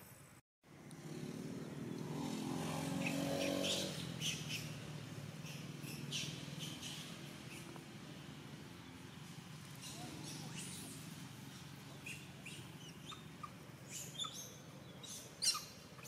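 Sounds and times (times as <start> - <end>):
motor vehicle engine passing: 0.7 - 16.0.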